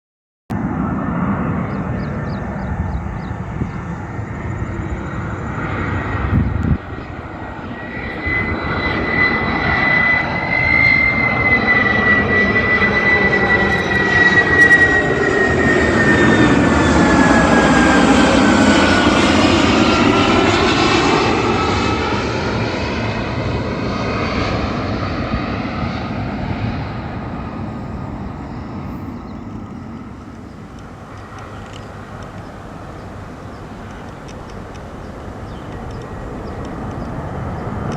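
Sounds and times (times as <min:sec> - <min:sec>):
jet plane passing by: 0:00.5 - 0:37.9.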